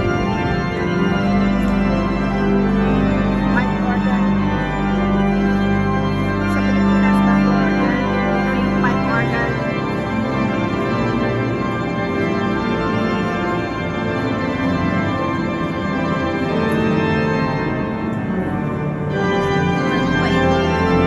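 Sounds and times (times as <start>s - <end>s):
pipe organ playing chords: 0.0s - 21.0s.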